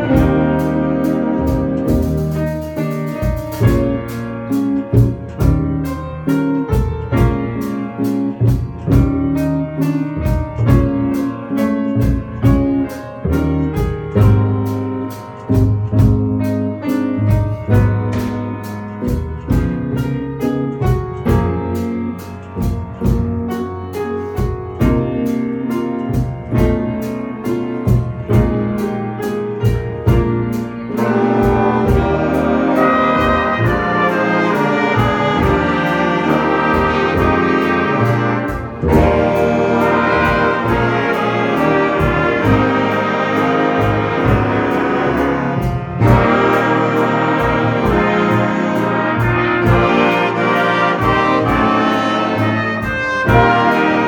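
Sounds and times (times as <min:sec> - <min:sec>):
trumpets and trombones: 0:00.0 - 0:20.1, 0:27.8 - 0:54.0
jazz band playing slow tune: 0:00.0 - 0:54.0.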